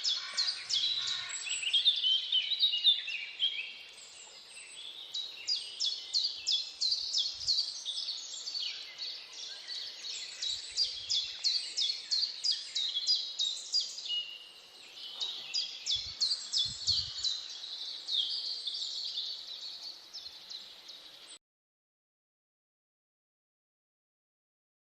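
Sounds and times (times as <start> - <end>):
birds chirping: 0.0 - 21.4.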